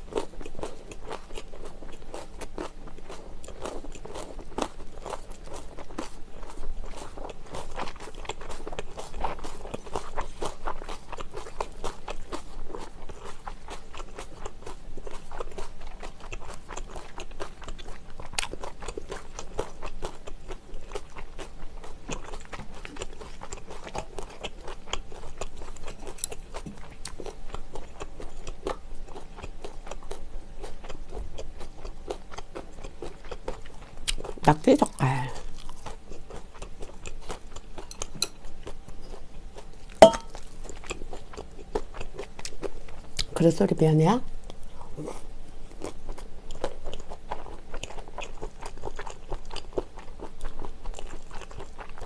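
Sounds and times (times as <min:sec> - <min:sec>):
chewing and mouth sounds: 0:00.0 - 0:43.5, 0:44.4 - 0:52.0.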